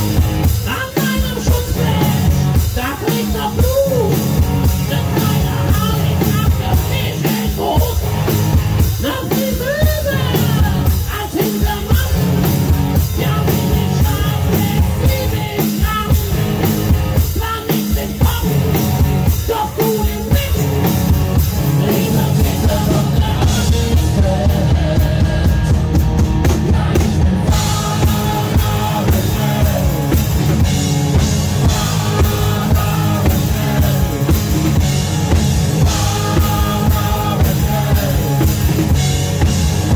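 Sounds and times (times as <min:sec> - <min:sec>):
driving drum kit: 0:00.0 - 0:39.9
rock band playing: 0:00.0 - 0:39.9
person singing: 0:00.4 - 0:39.0.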